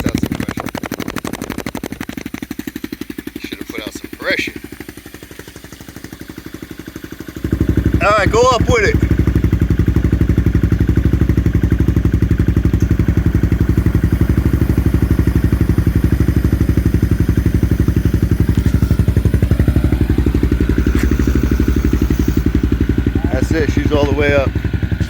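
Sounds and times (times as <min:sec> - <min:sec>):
scooter engine idling: 0:00.0 - 0:25.0.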